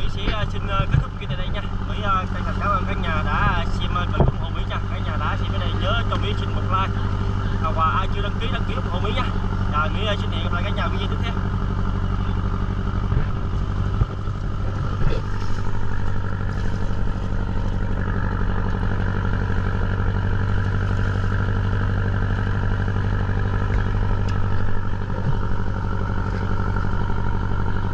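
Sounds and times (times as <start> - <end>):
boat engine droning: 0.0 - 27.9.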